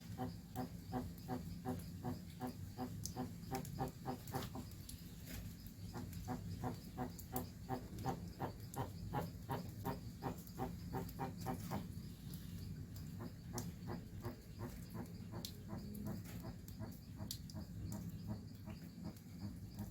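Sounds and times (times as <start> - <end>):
steady low hum: 0.0 - 19.9
tortoise clucking calls: 0.0 - 19.9.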